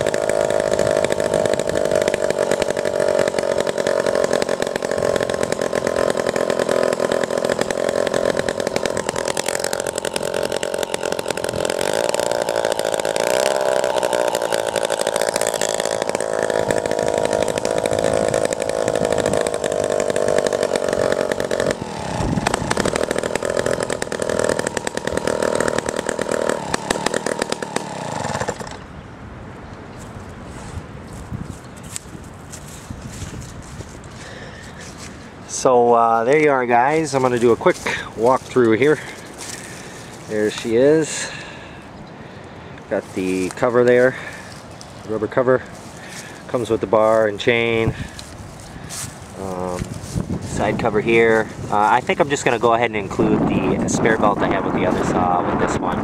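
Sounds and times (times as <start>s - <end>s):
chainsaw running: 0.0s - 29.0s, 30.5s - 56.0s.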